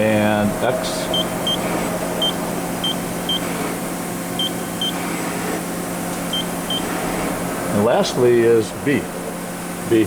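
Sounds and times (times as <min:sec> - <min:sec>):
machine low hum: 0:00.0 - 0:10.0.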